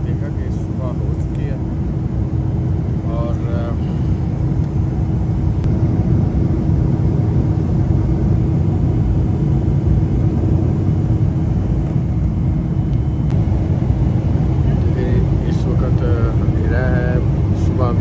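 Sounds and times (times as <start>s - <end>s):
faint steady hum: 0.0s - 18.0s
jet engines rumbling: 0.0s - 18.0s.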